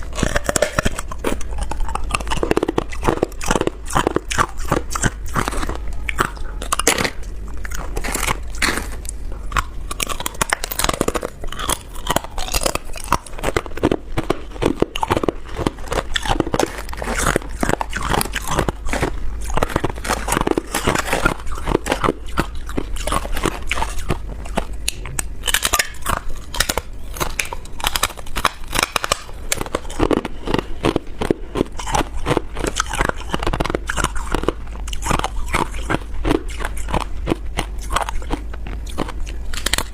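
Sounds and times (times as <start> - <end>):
ice crunching being chewed: 0.0 - 39.9
steady low hum: 0.0 - 39.9.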